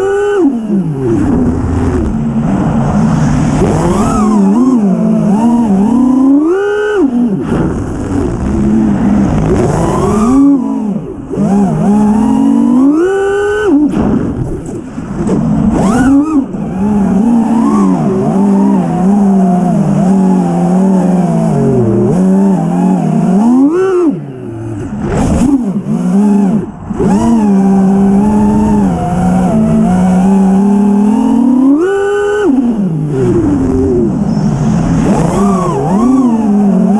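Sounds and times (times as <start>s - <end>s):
drone motors whining: 0.0s - 36.9s.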